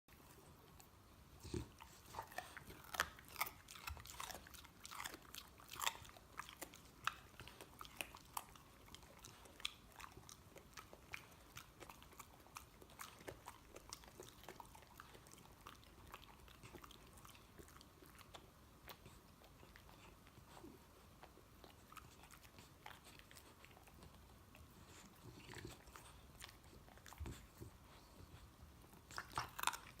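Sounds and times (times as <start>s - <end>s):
puppy chewing and gnawing: 0.1s - 30.0s.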